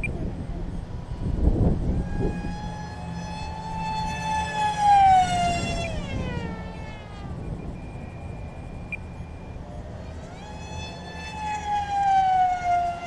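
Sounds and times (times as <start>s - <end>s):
model plane motor whine: 0.0s - 13.0s
wind buffeting microphone: 0.0s - 13.0s.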